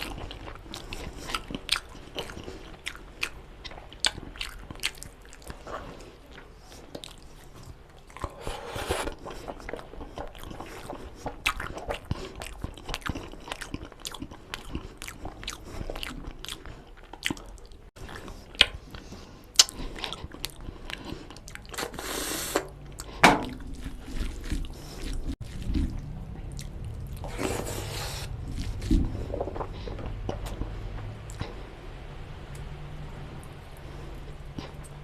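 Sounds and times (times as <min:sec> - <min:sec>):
person chewing wet mouth sounds: 0:00.0 - 0:22.0, 0:22.8 - 0:31.7.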